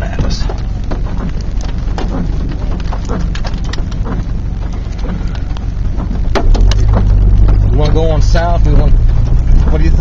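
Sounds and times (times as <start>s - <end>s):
rain hitting a car: 0.0s - 10.0s
steady low rumble: 0.0s - 10.0s.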